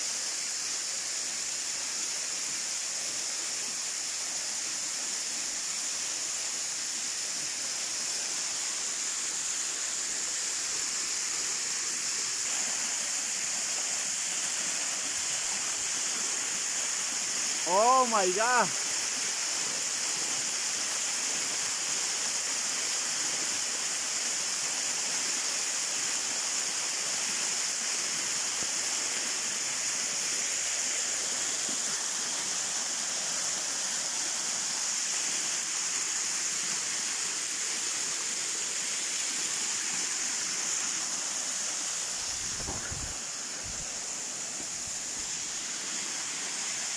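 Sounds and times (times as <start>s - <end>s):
waterfall splashing into pool: 0.0s - 46.9s.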